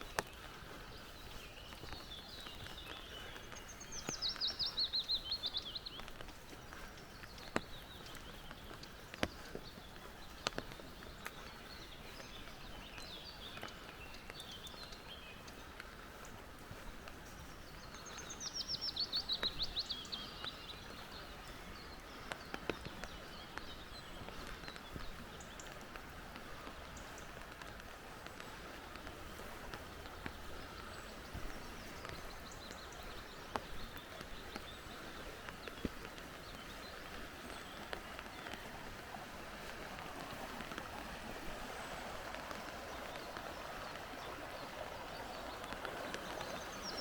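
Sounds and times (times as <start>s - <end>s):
forest birds calling: 0.0s - 47.0s
steady faint hiss: 0.0s - 47.0s.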